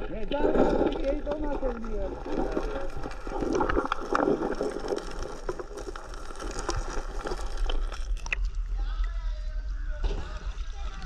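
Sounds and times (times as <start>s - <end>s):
muffled underwater river rushing: 0.0s - 11.0s.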